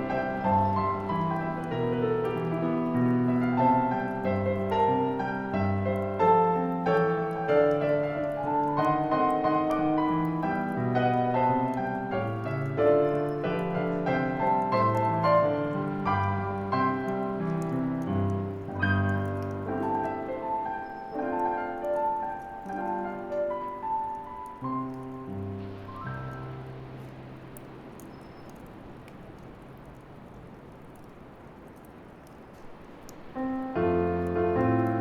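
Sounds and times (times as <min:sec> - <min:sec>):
solo piano playing: 0:00.0 - 0:29.0, 0:33.2 - 0:35.0.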